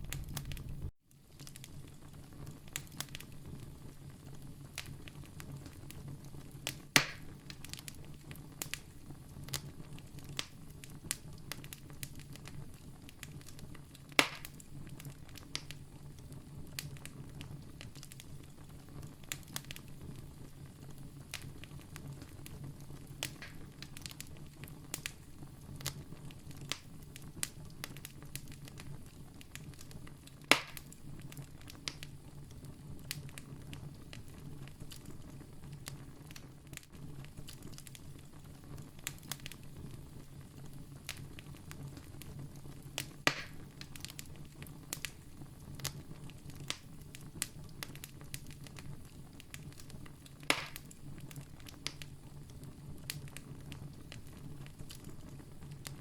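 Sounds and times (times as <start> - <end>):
loud fire pops: 0.0 - 3.8, 4.7 - 56.0
campfire crackling: 0.0 - 56.0.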